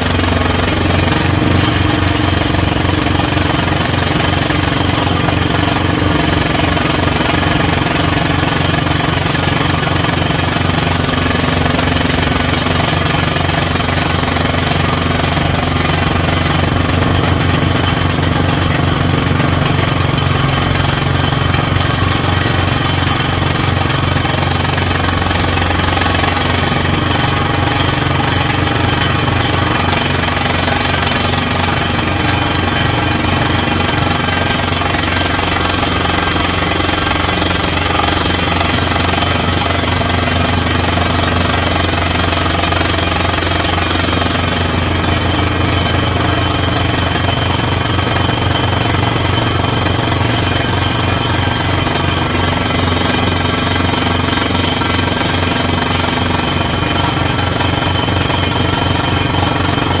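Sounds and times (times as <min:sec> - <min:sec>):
drilling rig hammering: 0:00.0 - 1:00.0
engine drone: 0:00.0 - 1:00.0.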